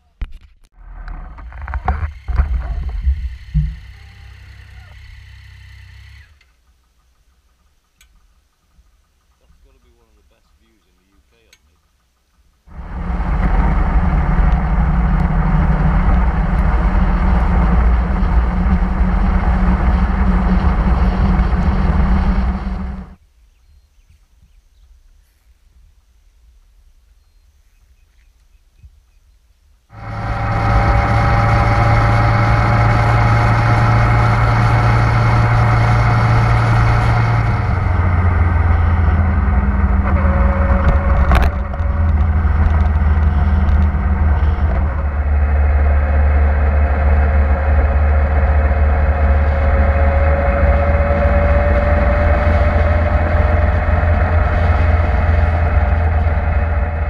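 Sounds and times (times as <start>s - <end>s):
wind and road noise: 0.1s - 57.0s
motorcycle engine running: 0.8s - 10.3s, 11.6s - 23.2s, 29.9s - 57.0s.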